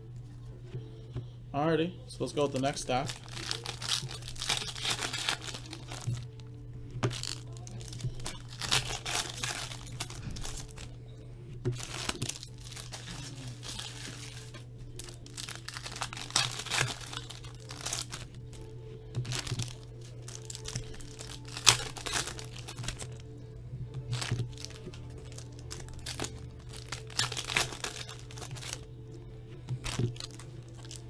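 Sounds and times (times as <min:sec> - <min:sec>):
quiet background music: 0:00.0 - 0:31.0
foil wrappers crinkling and tearing: 0:02.1 - 0:31.0.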